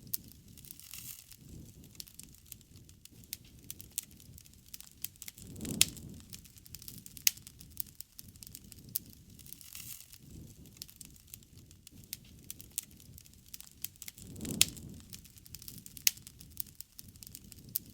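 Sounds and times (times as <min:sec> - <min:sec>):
campfire crackling and popping: 0:00.0 - 0:17.9
low rush of flames: 0:00.0 - 0:17.9.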